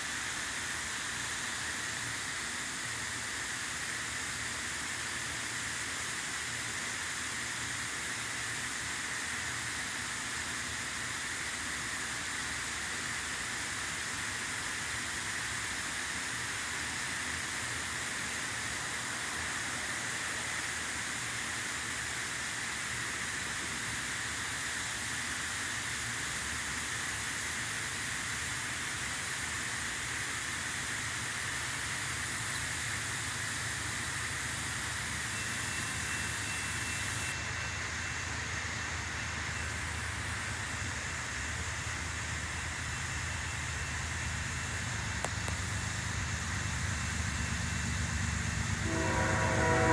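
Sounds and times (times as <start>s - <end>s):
train rumble and hiss: 0.0s - 49.9s.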